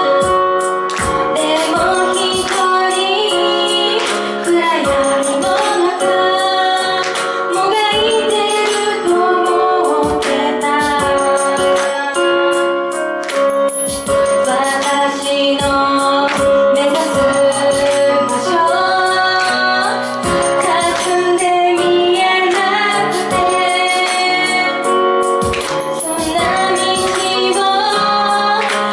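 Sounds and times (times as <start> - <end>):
woman singing: 0.0 - 12.7, 14.2 - 25.0, 25.9 - 28.9
instrumental pop accompaniment: 0.0 - 28.9.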